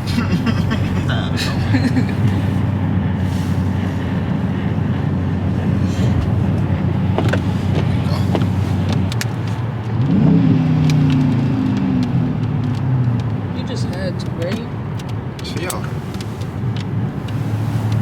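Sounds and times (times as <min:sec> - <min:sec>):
car engine rumble from inside: 0:00.0 - 0:18.0
road noise: 0:00.0 - 0:18.0.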